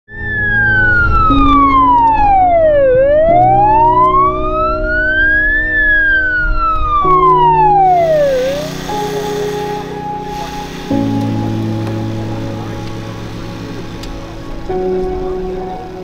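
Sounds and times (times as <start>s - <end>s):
emergency siren wailing: 0.1s - 16.0s
sustained background chords: 0.1s - 16.0s.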